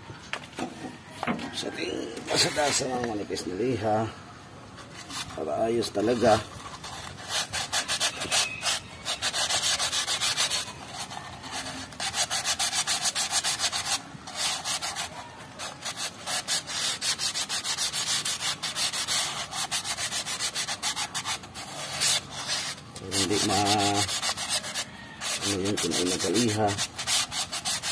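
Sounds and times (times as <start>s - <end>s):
sandpaper rasping in metal bore: 4.9s - 27.9s.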